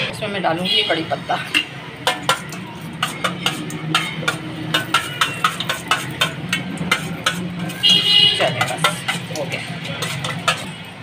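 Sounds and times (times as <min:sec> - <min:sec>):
spices spluttering in hot oil: 0:00.4 - 0:11.0.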